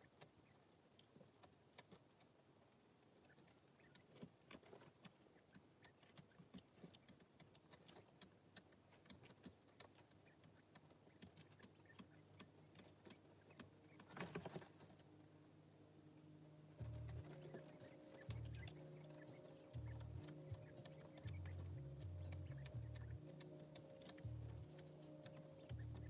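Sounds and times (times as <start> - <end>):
chicks pecking light taps: 0.0 - 26.0.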